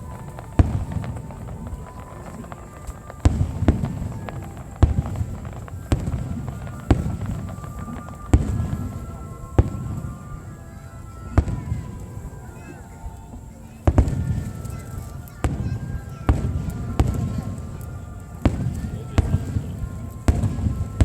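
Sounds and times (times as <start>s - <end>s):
fireworks booming: 0.0s - 21.0s.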